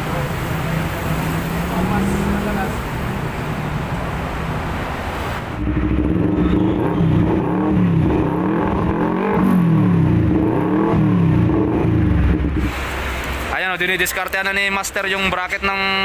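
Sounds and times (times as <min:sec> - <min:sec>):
motorcycle engine revving: 0:00.2 - 0:13.1.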